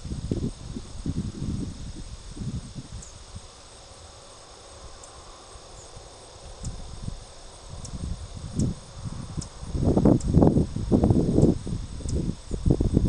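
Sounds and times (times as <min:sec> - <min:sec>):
wind rumble on microphone: 0:00.0 - 0:03.8, 0:05.9 - 0:13.0
crickets trilling: 0:00.0 - 0:13.0.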